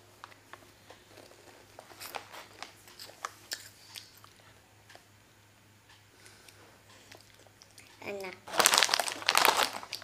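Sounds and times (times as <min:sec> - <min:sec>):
child chewing crunchy snack: 0:00.3 - 0:05.0, 0:06.3 - 0:10.0.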